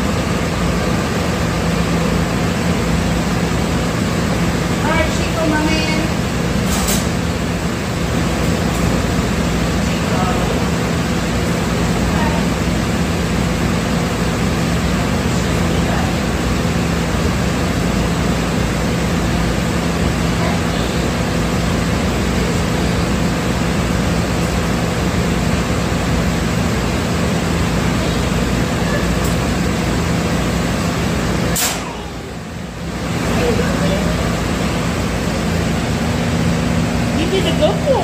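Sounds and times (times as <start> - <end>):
low motor hum: 0.0 - 38.0.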